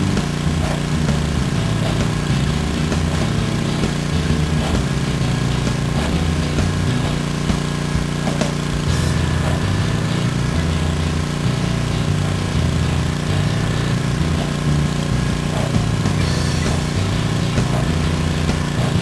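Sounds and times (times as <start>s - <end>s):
pressure washer engine running: 0.0s - 19.0s
water jet spraying on concrete: 0.0s - 19.0s.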